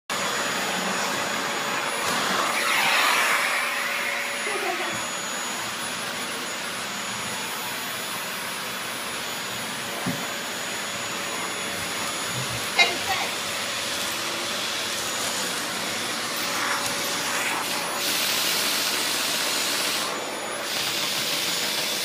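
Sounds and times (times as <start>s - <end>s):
vacuum cleaner running: 0.1s - 22.0s.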